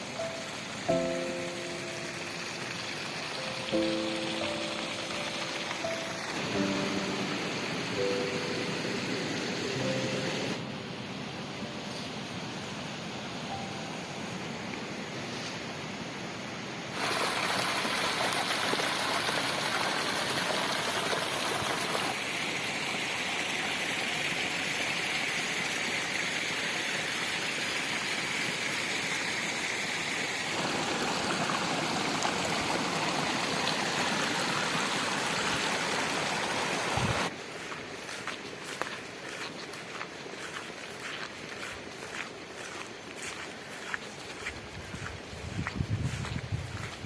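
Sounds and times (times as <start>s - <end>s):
stream water rushing: 0.0s - 47.0s.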